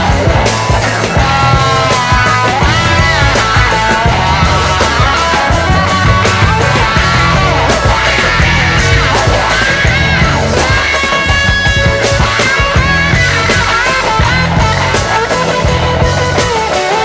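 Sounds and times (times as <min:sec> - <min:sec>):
loud rock music: 0:00.0 - 0:17.0
steady drum beat: 0:00.0 - 0:17.0.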